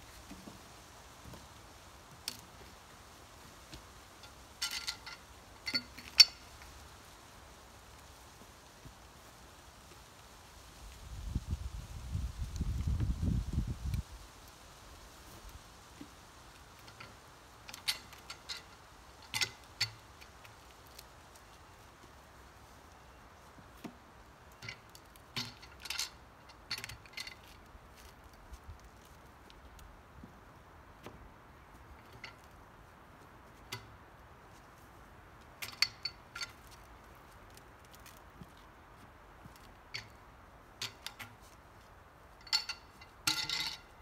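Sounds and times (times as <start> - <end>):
faint steady background noise: 0.0 - 44.0.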